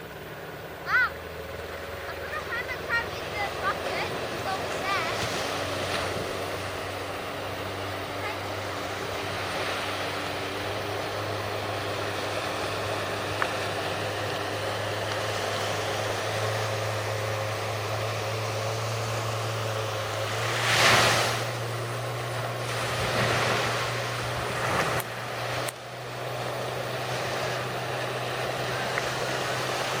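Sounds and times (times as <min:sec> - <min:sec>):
low engine drone: 0:00.0 - 0:30.0
rushing wind and waves: 0:00.8 - 0:30.0.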